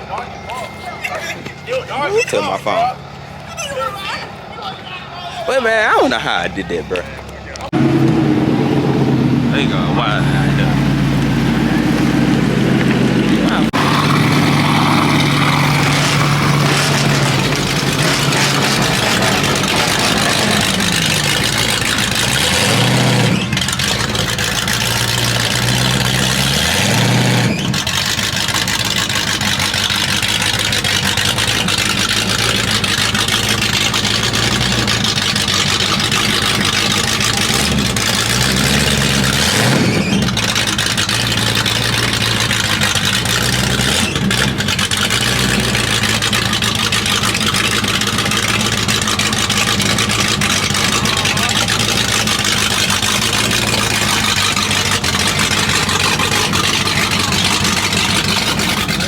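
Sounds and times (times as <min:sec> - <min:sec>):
car engine revving: 0:05.5 - 0:59.0.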